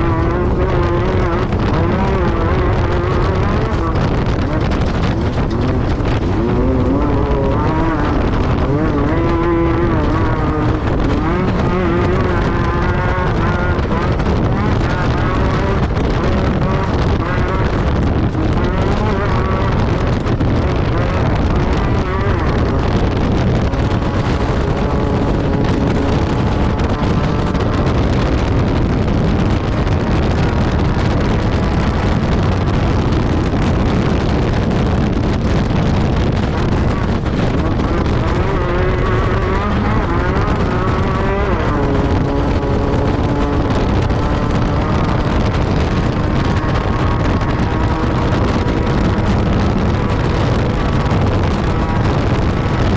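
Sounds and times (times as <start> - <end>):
buggy engine revving: 0.0 - 52.9.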